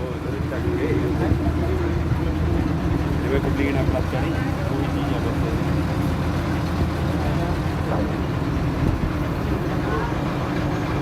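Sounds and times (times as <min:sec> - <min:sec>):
diesel engine running steadily: 0:00.0 - 0:11.0.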